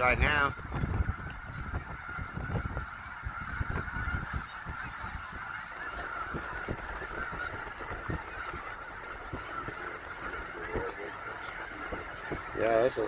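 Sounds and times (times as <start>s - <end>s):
flock of geese honking: 0.0s - 13.0s.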